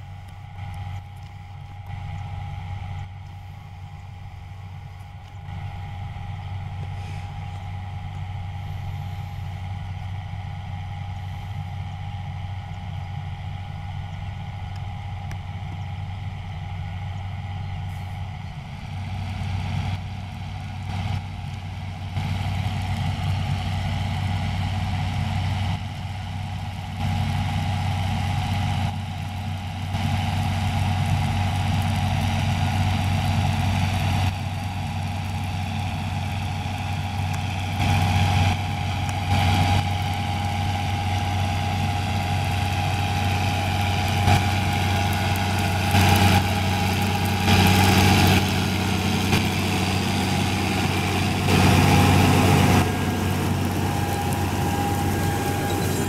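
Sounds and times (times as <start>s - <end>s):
steady whine: 0.0s - 56.0s
tractor diesel engine under load: 0.0s - 56.0s.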